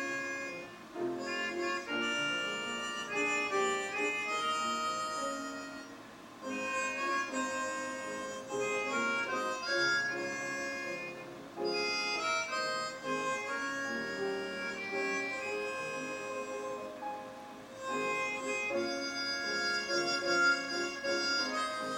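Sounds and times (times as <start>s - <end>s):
instrumental gospel music: 0.0s - 21.9s.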